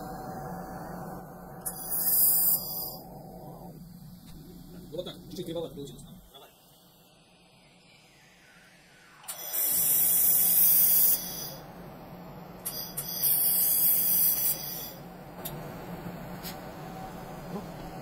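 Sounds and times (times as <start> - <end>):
laser welder hissing sizzle: 0.0 - 18.0
machine hiss: 0.0 - 18.0.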